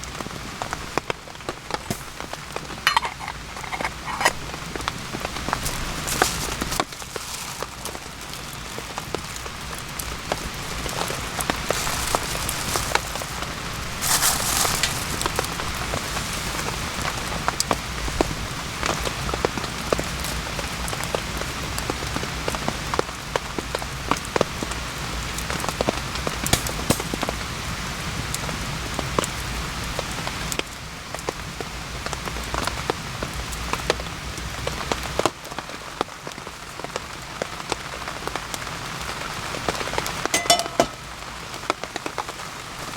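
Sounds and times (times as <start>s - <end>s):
rain falling in forest: 5.3s - 40.2s.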